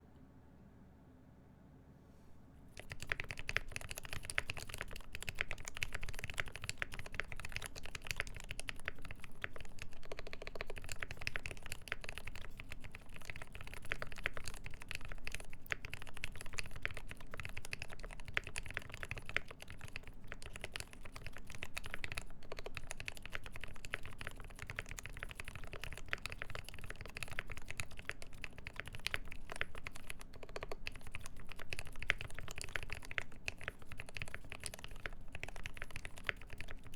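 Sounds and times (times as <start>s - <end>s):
fast typing on mechanical keyboard: 2.8s - 36.9s.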